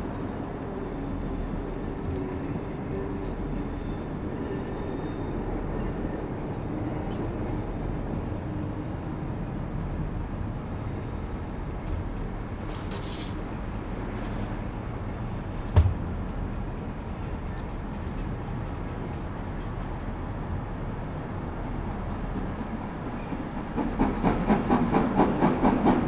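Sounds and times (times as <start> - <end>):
distant train rumble: 0.0 - 26.0.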